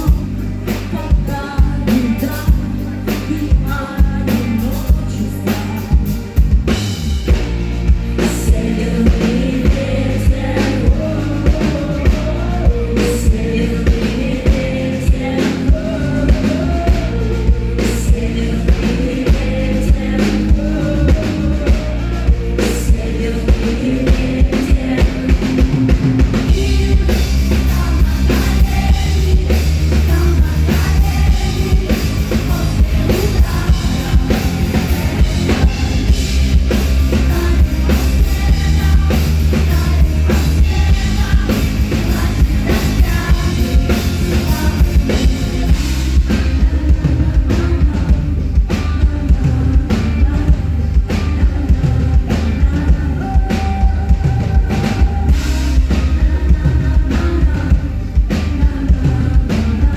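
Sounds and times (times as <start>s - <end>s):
person singing: 0.0s - 7.4s, 8.1s - 59.9s
drum kit beat: 0.0s - 59.9s
live band playing: 0.0s - 59.9s
loud bass: 0.0s - 59.9s.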